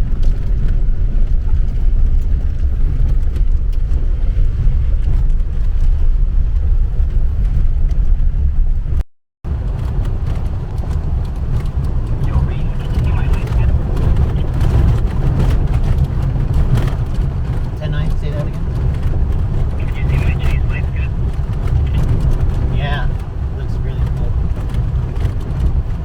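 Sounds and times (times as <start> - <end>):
truck rumbling off-road: 0.0 - 26.0.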